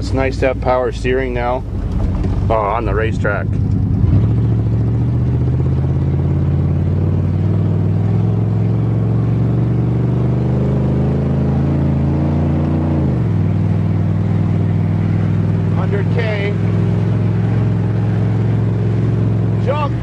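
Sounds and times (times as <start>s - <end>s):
pickup engine accelerating: 0.0s - 20.0s.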